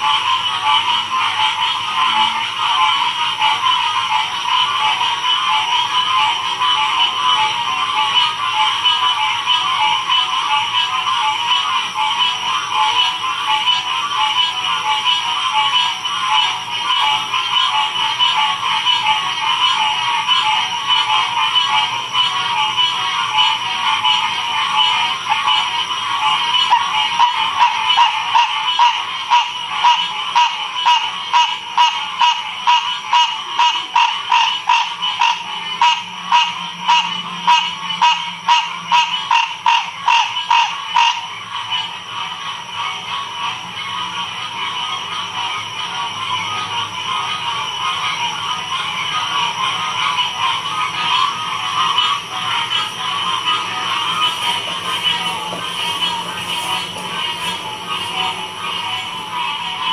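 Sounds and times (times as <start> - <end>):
frogs trilling in chorus: 0.0 - 59.9
loud pulsing frog call: 0.0 - 59.9.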